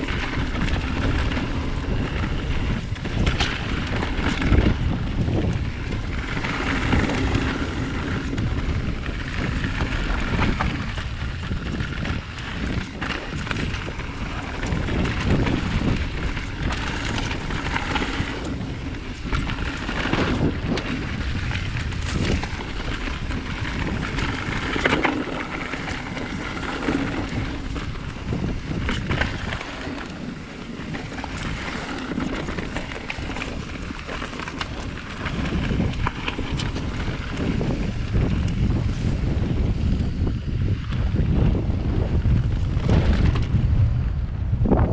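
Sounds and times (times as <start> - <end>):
tyres on gravel: 0.0 - 40.4
wind on microphone: 0.0 - 44.9.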